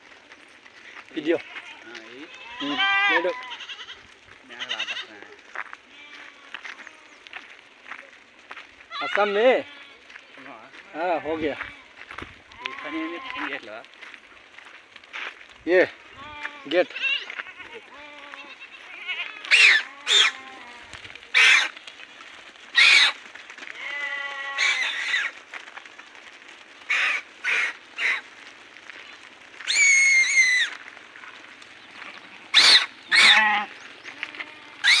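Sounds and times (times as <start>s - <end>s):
goats bleating: 0.4s - 7.6s, 8.5s - 13.8s, 15.7s - 28.6s, 29.5s - 35.0s.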